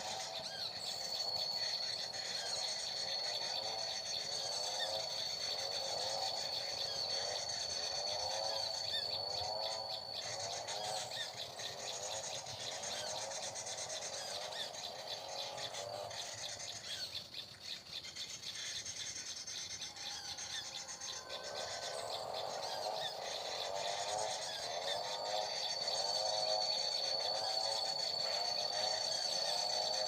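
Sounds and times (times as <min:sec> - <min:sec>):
thin steady high tone: 0:00.0 - 0:17.4, 0:18.5 - 0:30.0.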